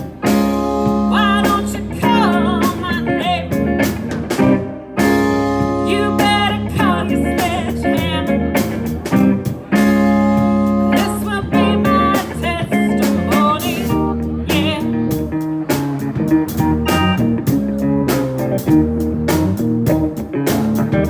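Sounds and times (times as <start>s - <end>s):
band playing a song: 0.0s - 21.0s
guitar with bent notes: 0.0s - 21.0s.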